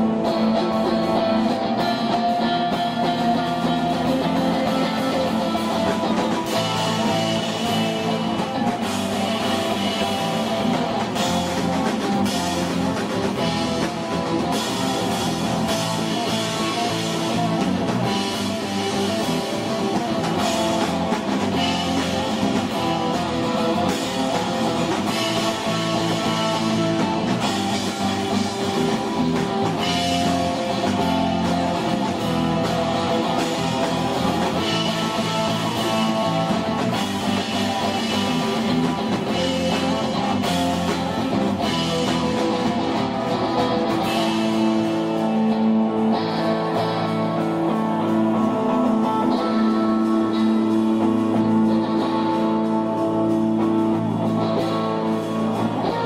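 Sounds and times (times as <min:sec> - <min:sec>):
drum kit with cymbals: 0:00.0 - 0:56.0
electric guitar: 0:00.0 - 0:56.0
rock band playing: 0:00.0 - 0:56.0.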